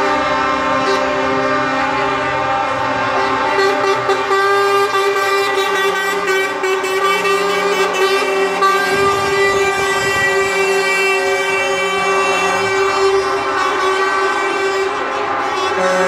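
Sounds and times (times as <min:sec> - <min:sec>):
truck air horns blasting: 0:00.0 - 0:16.0
trucks driving past: 0:00.0 - 0:16.0.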